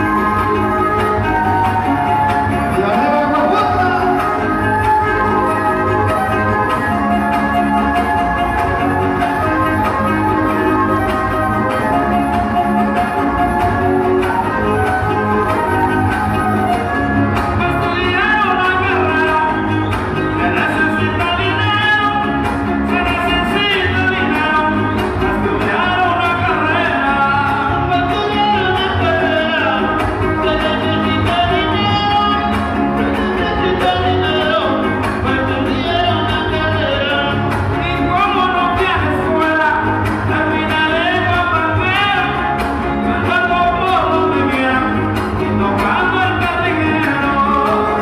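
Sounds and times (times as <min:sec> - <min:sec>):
latin dance band playing: 0:00.0 - 0:48.0
person singing: 0:00.0 - 0:48.0.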